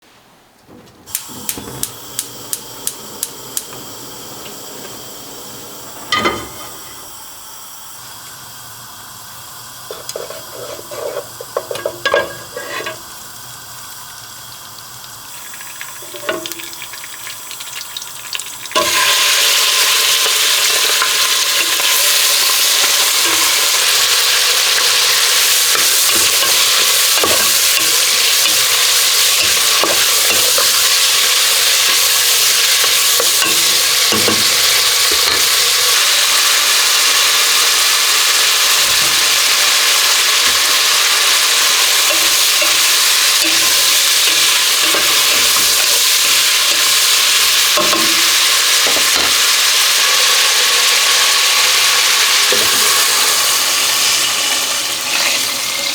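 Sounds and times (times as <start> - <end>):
food sizzling in hot oil: 1.1 - 55.9.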